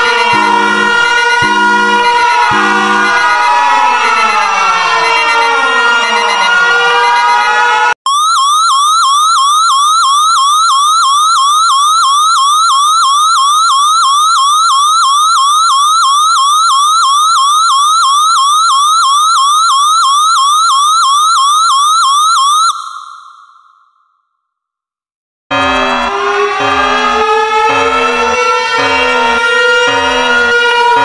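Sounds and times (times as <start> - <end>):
synthesized alert siren sweeping: 0.0 - 24.0, 25.5 - 31.0.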